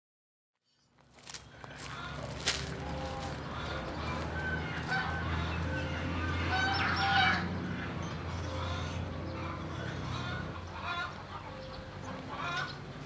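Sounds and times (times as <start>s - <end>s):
fowl clucking and honking: 1.3s - 13.0s.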